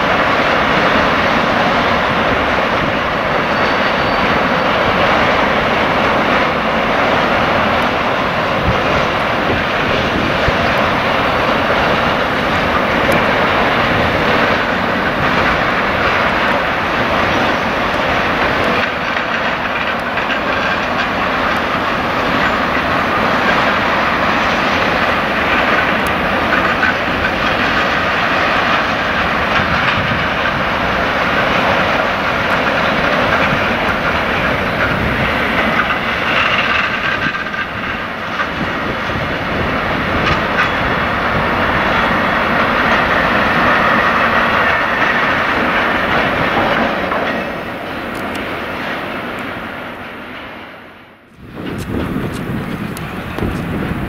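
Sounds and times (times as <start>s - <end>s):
wagon wheels on rails: 0.0s - 50.6s, 51.3s - 54.0s.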